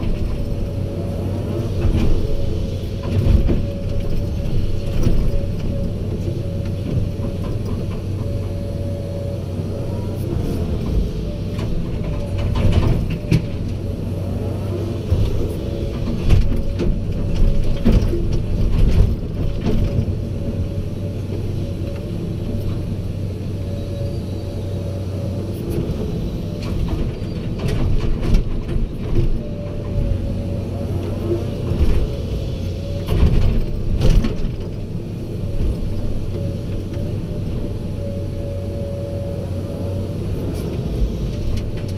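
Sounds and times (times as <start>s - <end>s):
diesel machinery running: 0.0s - 41.9s.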